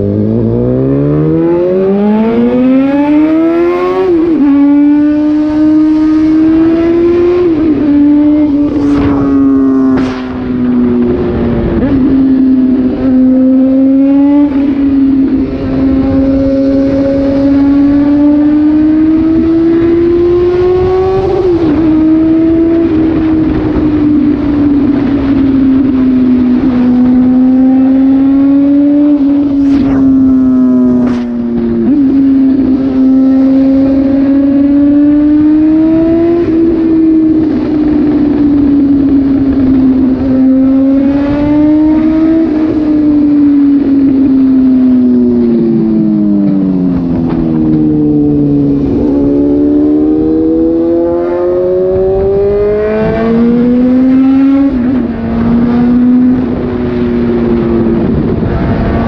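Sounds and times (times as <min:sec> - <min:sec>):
loud motorcycle engine revving: 0:00.0 - 0:59.0.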